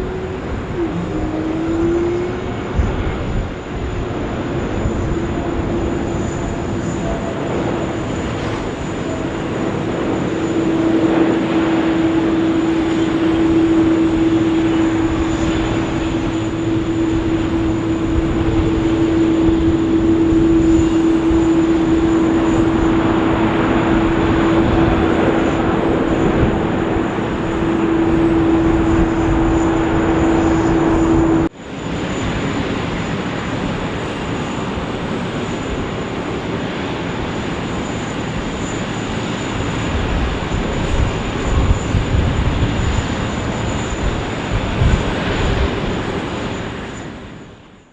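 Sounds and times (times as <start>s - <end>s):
jet engine rumble: 0.0s - 47.9s
steady hum: 0.0s - 47.9s.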